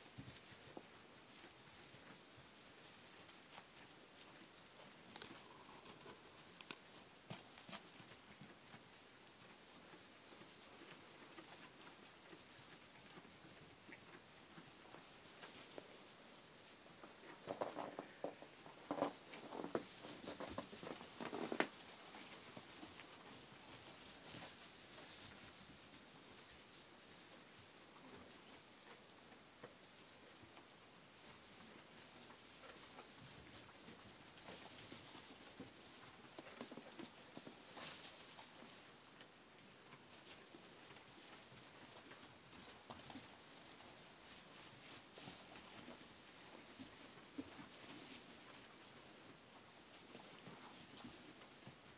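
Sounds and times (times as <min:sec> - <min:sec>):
hay rustling: 0:00.0 - 0:51.9
light hoof steps: 0:00.0 - 0:51.9
sheep chewing hay: 0:00.0 - 0:51.9.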